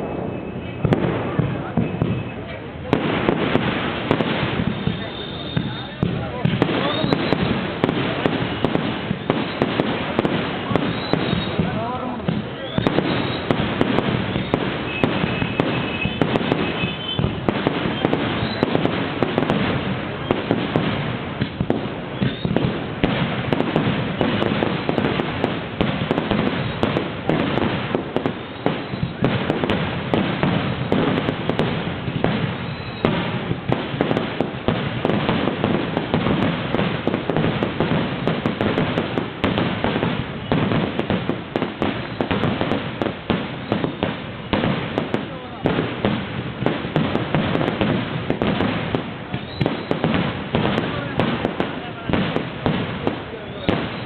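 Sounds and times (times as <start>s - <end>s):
fireworks barrage: 0.0s - 54.0s.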